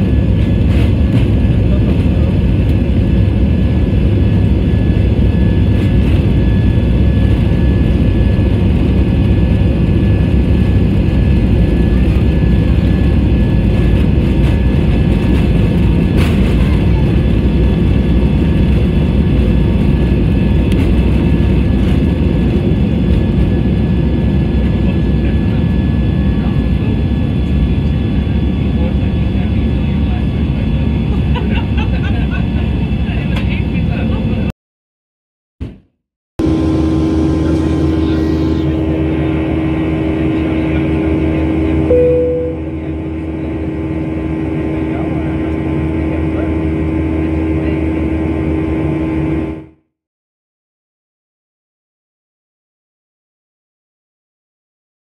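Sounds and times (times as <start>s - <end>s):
jet engines and wheels rumbling: 0.0s - 34.5s, 36.4s - 49.8s.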